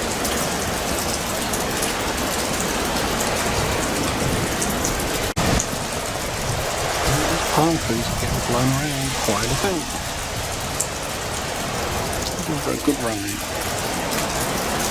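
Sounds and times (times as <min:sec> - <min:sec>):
storm rain falling: 0:00.0 - 0:14.9.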